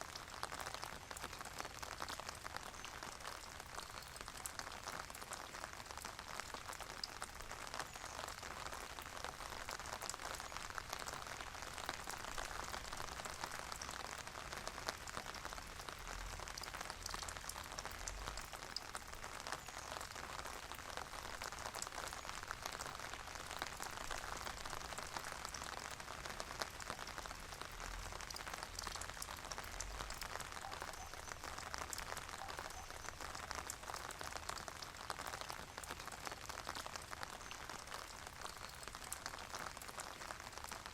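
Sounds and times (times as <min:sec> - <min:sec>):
steady rain with ticking drops: 0:00.0 - 0:40.9.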